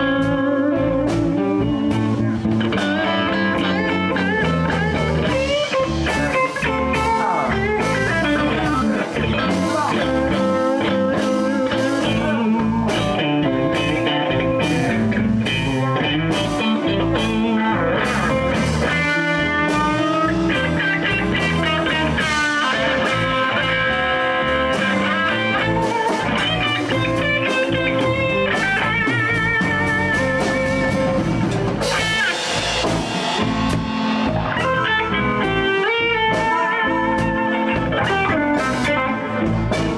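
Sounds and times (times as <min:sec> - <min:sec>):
blues band playing live: 0:00.0 - 0:39.9
wavering lead guitar line: 0:00.0 - 0:39.9.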